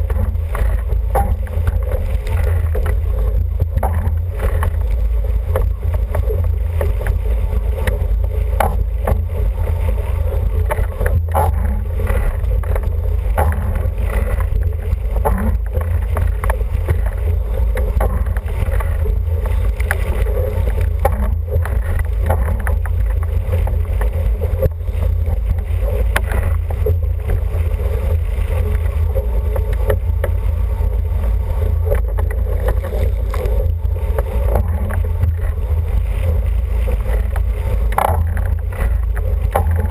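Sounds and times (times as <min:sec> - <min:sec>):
water rushing and slapping on hull: 0:00.0 - 0:39.9.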